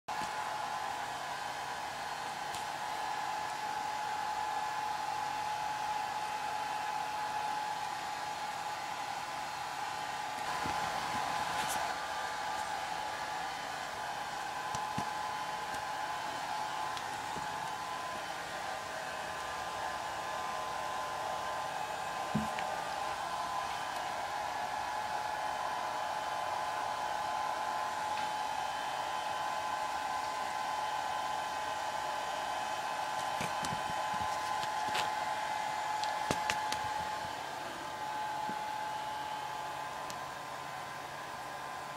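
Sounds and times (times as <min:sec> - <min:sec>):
fan whirring: 0:00.1 - 0:41.9.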